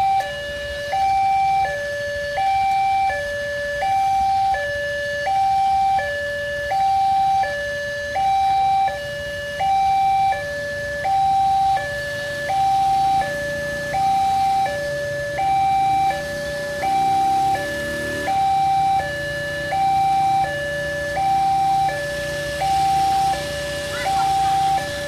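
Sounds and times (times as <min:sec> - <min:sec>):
level crossing two-tone alarm: 0:00.0 - 0:25.0.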